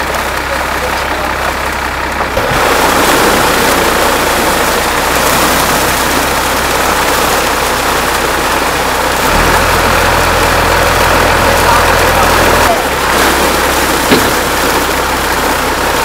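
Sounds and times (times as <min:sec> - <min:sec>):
fish thrashing and splashing: 0:01.7 - 0:16.0.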